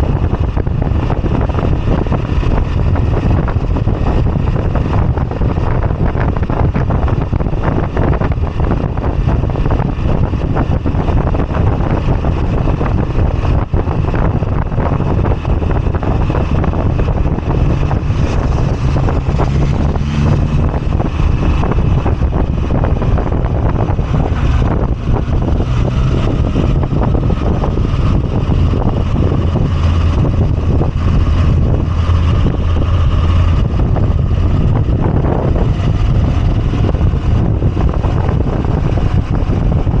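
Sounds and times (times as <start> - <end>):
motorcycle engine rumbling: 0.0 - 40.0
wind noise on microphone: 0.0 - 40.0.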